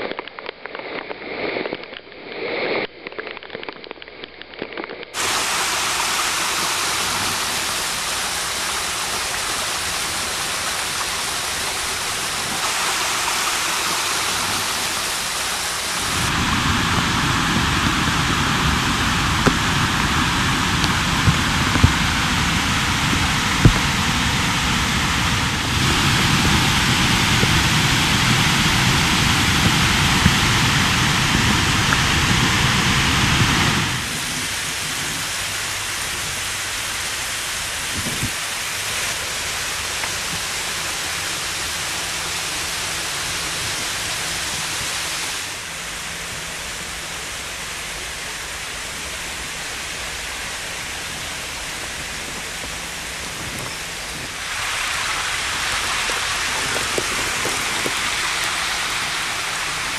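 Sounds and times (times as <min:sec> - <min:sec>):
rushing water hiss: 0:05.1 - 0:59.9.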